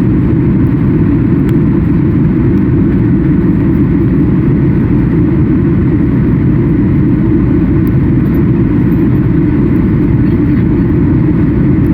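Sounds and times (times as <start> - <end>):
airplane cabin engine rumble: 0.0 - 11.9.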